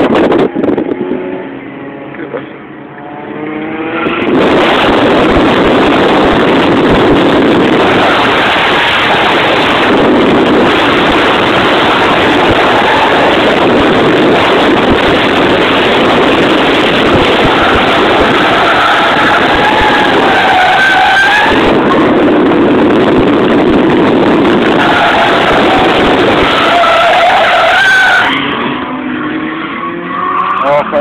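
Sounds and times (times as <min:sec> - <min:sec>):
rotary engine at high revs: 0:00.1 - 0:31.0.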